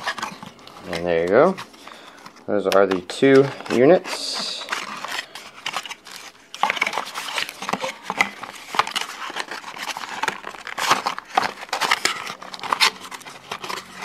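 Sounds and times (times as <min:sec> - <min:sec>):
cardboard being folded: 0:00.0 - 0:14.0
plastic wrap crinkling: 0:00.0 - 0:14.0.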